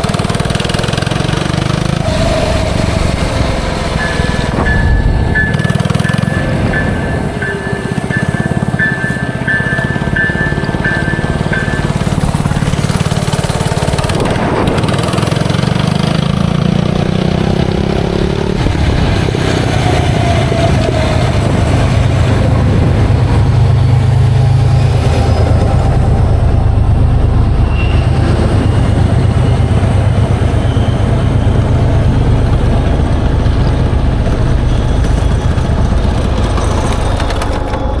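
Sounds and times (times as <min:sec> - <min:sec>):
minibike engine running: 0:00.0 - 0:38.0.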